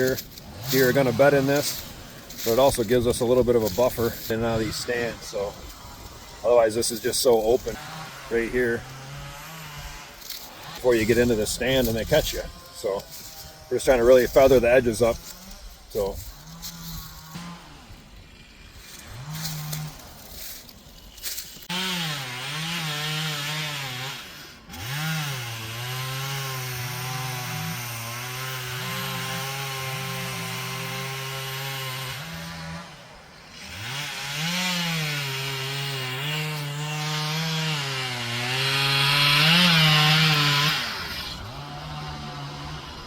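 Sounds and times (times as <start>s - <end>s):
chainsaw cutting timber: 0.0s - 43.0s.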